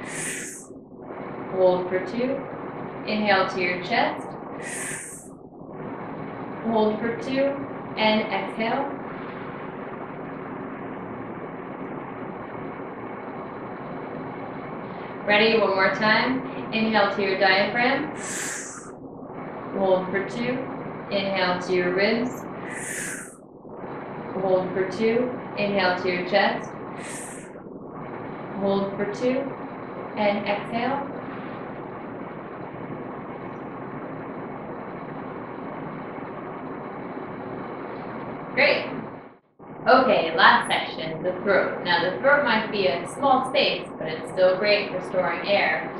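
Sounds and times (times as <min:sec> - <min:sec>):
background hum and hiss: 0:00.0 - 0:45.9
steady background noise: 0:00.0 - 0:45.9.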